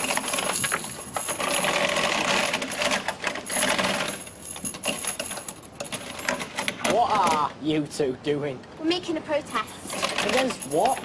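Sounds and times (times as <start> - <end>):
metal chain rattling and clinking: 0.0 - 7.4, 9.5 - 11.0.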